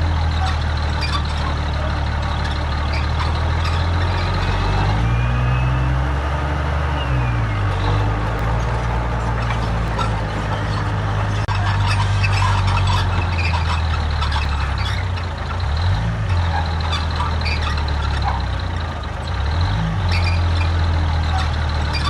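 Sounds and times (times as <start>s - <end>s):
heavy diesel engine revving: 0.0s - 22.0s.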